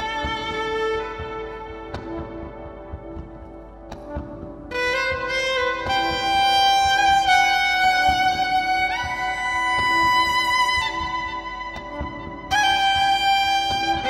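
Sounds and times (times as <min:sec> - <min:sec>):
solo violin long notes: 0:00.0 - 0:03.8, 0:04.7 - 0:14.0.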